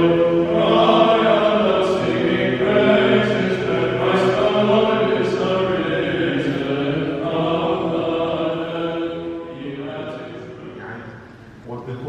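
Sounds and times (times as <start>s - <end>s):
voices chanting a hymn: 0.0s - 11.7s.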